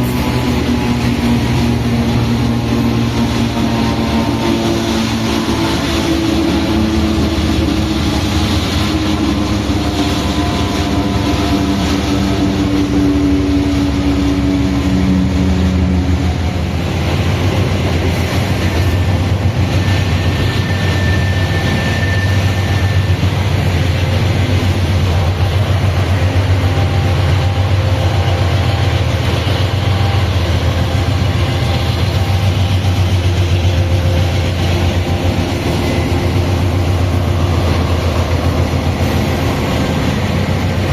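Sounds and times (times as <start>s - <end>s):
locomotive heavy drone: 0.0s - 40.9s
steady tones: 0.0s - 40.9s.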